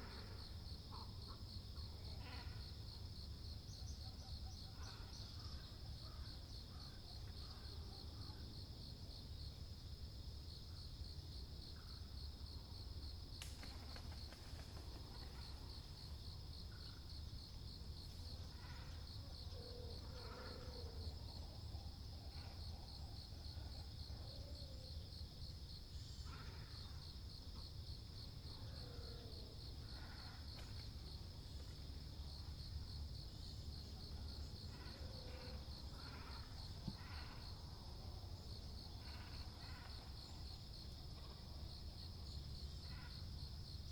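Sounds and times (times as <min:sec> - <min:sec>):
insect trill: 0:00.0 - 0:43.9.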